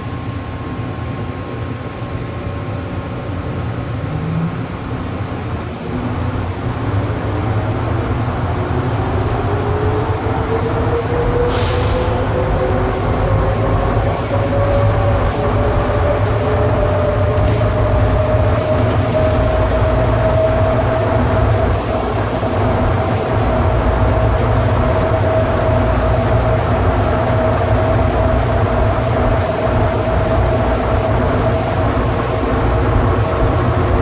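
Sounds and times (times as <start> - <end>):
train rumbling in tunnel: 0.0 - 34.0.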